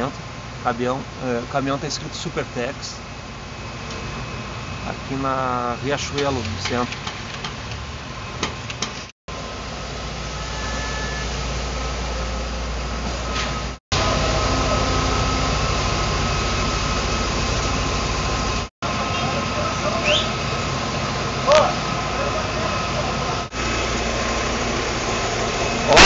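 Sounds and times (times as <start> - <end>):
diesel truck engine running: 0.0 - 26.0
faint mechanical whine: 0.0 - 26.0.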